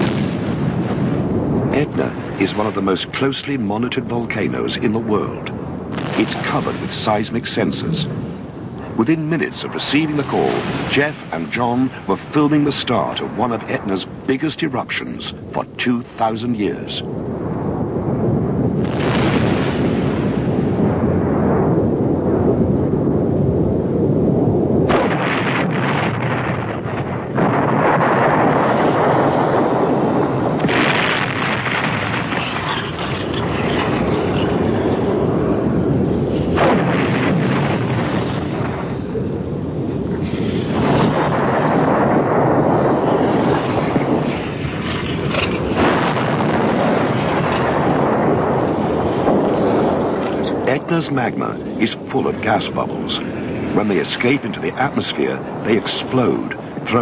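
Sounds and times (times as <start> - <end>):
volcanic explosive blast: 0.0 - 57.0
volcano low rumble: 0.0 - 57.0.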